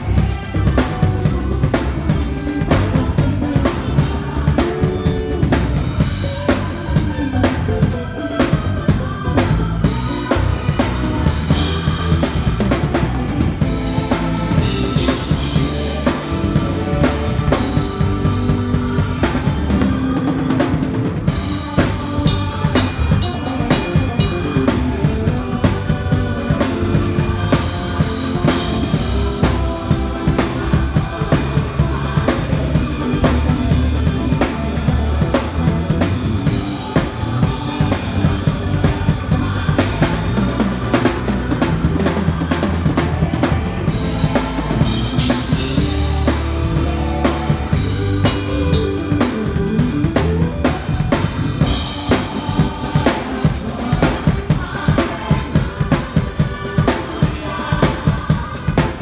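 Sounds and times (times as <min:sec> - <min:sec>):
drum kit playing: 0:00.0 - 0:59.0.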